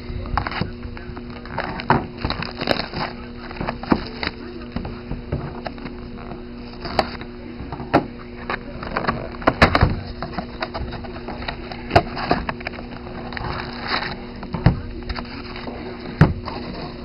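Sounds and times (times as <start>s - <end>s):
faint steady hum: 0.0s - 17.0s
cardboard box clicks and rustles: 0.4s - 5.9s, 6.7s - 17.0s.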